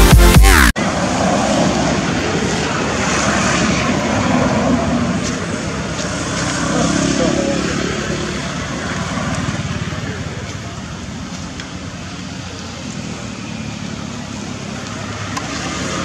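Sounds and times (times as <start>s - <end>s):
road traffic drone: 0.0s - 16.0s.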